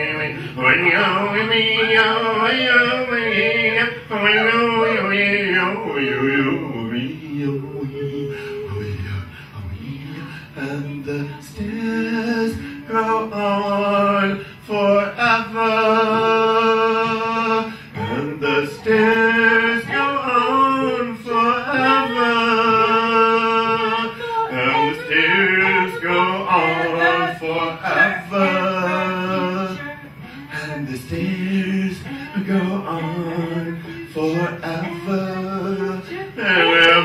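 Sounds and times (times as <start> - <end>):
man and woman singing: 0.0 - 37.0.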